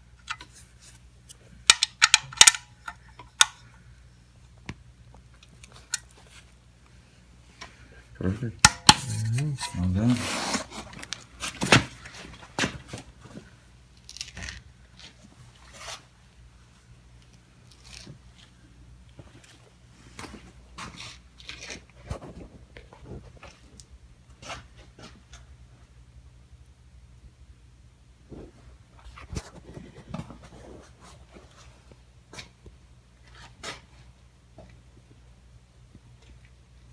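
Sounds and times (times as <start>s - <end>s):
low steady hum: 0.0s - 36.9s.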